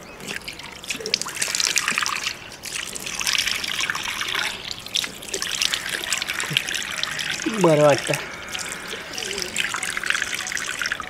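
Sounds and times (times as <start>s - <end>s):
water splashing at a tap: 0.0s - 11.0s.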